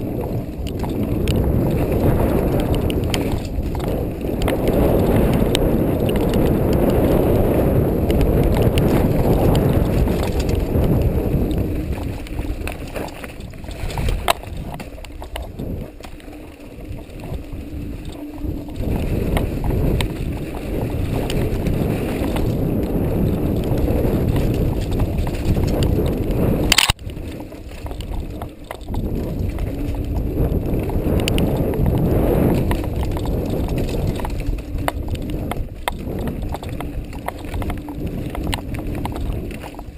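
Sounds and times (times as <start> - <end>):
bike frame rattles and clicks: 0.0 - 39.9
mountain bike rumbling on dirt: 0.0 - 39.9.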